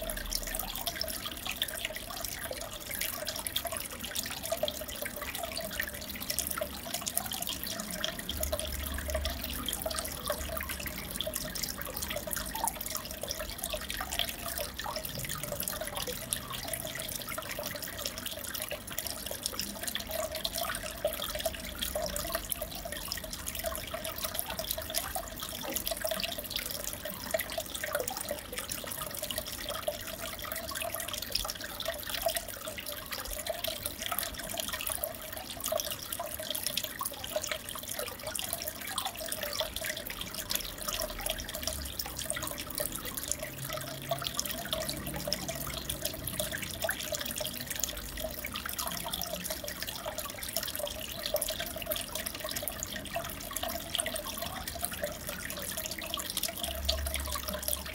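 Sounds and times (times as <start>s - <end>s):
aquarium water trickling and bubbling: 0.0s - 57.9s.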